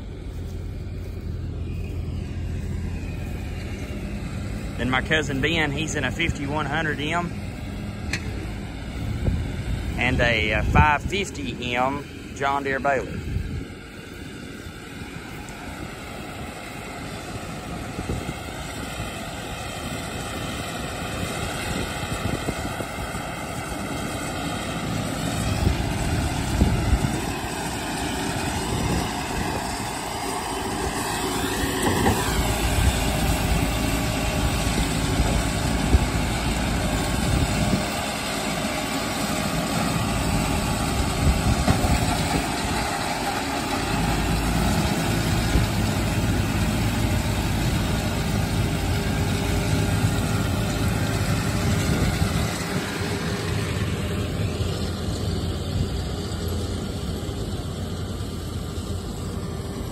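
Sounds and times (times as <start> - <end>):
baler drone: 0.0 - 59.9
tractor diesel engine: 0.0 - 59.9.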